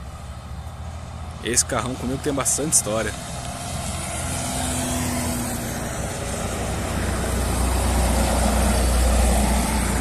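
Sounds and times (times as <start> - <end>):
coach diesel engine passing: 0.0 - 10.0
tyres on highway: 0.0 - 10.0.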